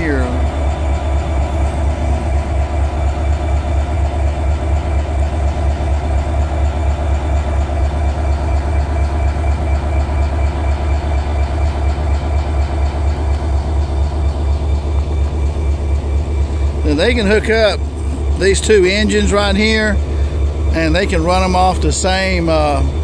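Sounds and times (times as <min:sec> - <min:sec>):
diesel locomotives idling: 0:00.0 - 0:23.0.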